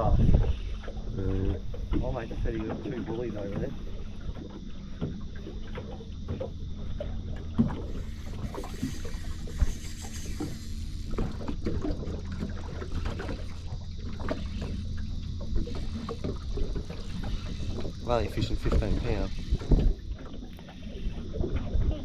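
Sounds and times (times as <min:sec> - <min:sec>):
waves lapping against boat hull: 0:00.0 - 0:22.0
low steady rumble: 0:03.6 - 0:22.0.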